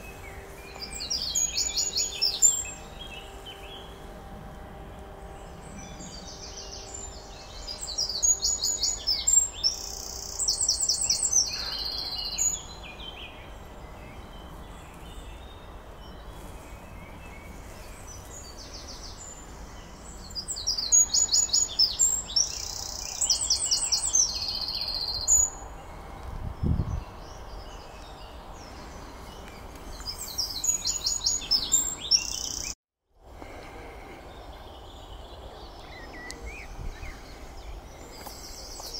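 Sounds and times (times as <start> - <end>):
faint outdoor hum: 0.0 - 38.9
songbird singing: 0.0 - 38.9.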